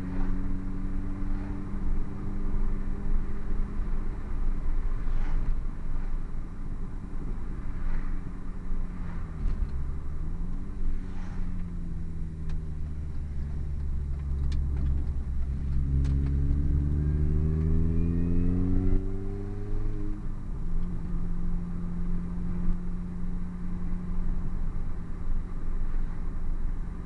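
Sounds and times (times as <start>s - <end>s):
car exhaust drone: 0.0s - 27.0s.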